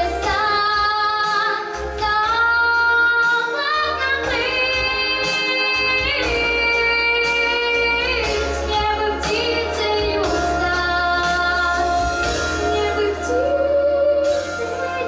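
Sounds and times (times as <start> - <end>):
pop backing track: 0.0 - 15.0.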